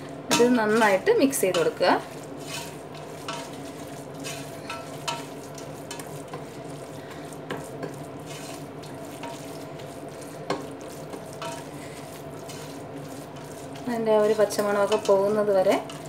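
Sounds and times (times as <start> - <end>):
onions sizzling in a pot: 0.0 - 16.0
spatula scraping and knocking pot: 0.3 - 16.0.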